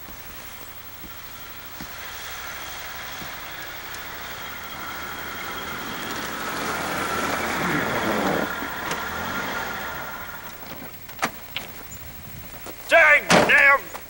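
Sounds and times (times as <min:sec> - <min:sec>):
car engine driving over snow: 0:00.0 - 0:14.0.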